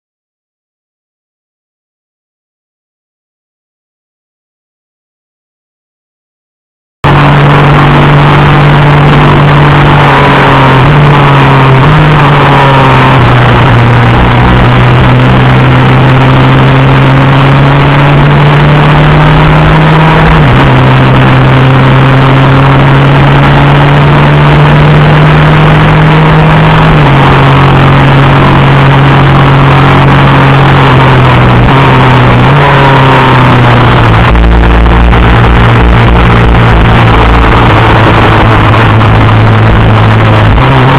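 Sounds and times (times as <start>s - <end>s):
racing kart engine: 7.0s - 40.9s.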